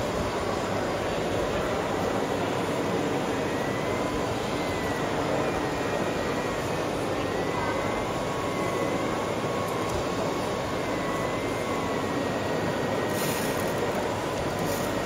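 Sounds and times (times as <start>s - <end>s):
small electric motor whine: 0.0s - 15.0s.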